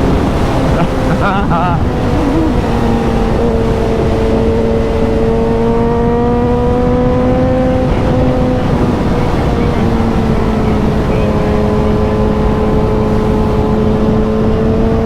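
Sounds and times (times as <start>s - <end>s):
motorcycle engine running: 0.0s - 15.0s
wind rumble: 0.0s - 15.0s.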